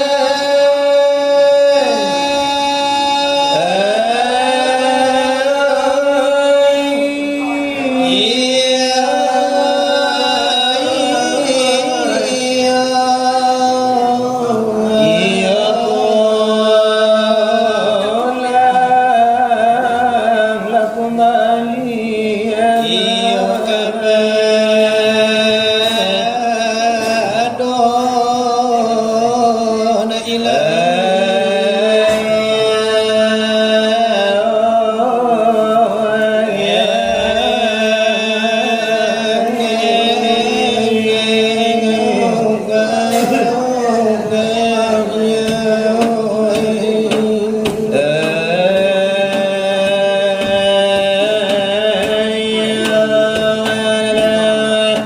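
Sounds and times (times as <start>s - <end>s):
voices chanting religious verse: 0.0s - 55.0s.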